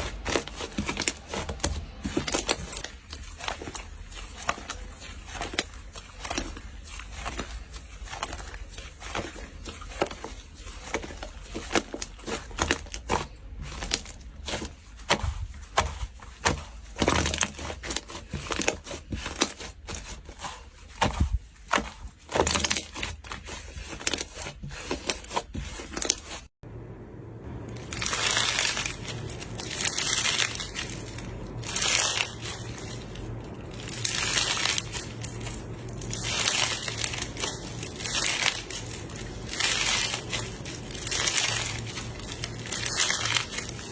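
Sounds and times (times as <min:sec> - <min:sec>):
slime squishing: 0:00.0 - 0:26.5, 0:27.4 - 0:43.9.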